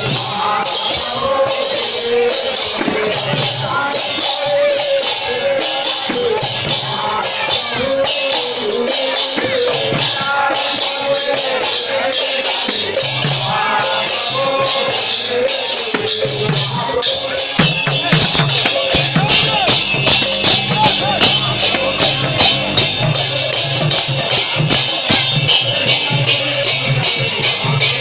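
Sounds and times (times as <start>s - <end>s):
drum beating: 0.0s - 28.0s
hand cymbals clashing: 0.0s - 28.0s.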